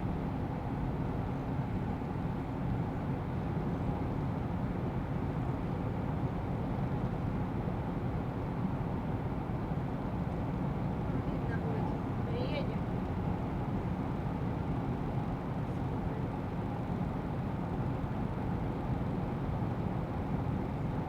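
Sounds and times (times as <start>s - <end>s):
road noise inside van cab: 0.1s - 21.0s.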